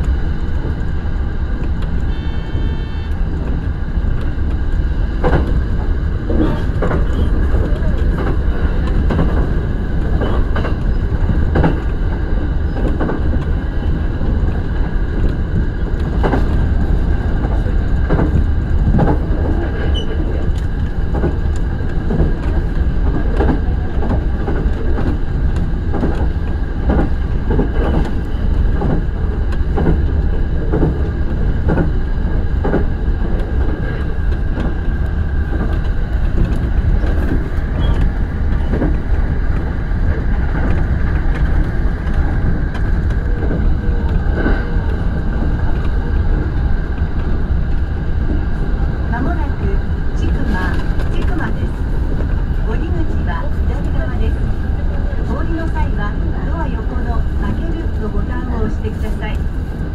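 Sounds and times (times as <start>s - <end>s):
train wheels rumbling on rails: 0.0s - 59.9s
track clicks and knocks: 1.5s - 59.9s.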